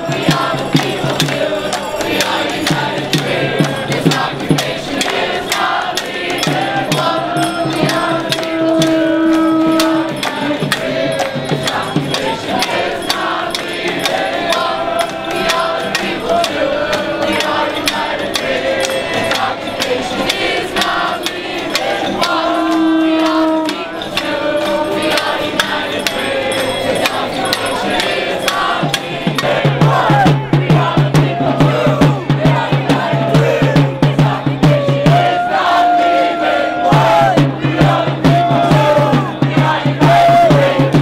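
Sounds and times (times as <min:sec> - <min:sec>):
steady percussion: 0:00.0 - 0:41.0
voices singing together: 0:00.0 - 0:41.0.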